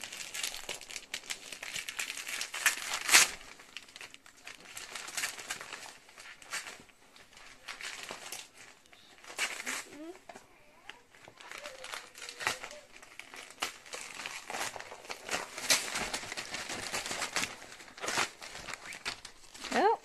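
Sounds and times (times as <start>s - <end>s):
wrapping paper tearing and crinkling: 0.0s - 20.0s.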